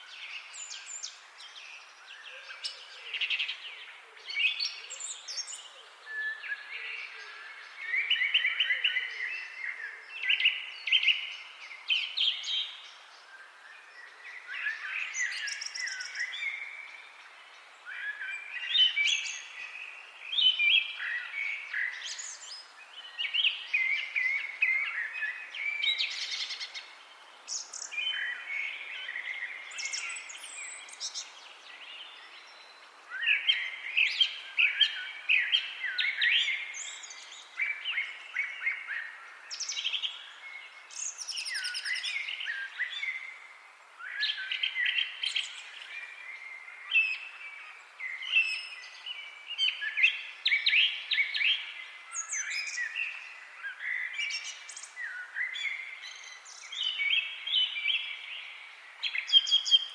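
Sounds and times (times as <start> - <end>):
faint steady hiss: 0.0 - 59.9
songbirds singing: 0.0 - 59.9.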